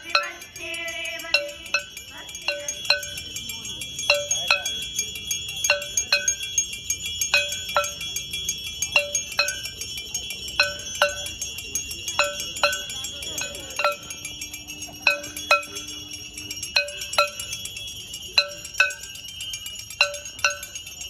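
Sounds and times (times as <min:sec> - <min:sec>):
small hand bell ringing: 0:00.0 - 0:21.0.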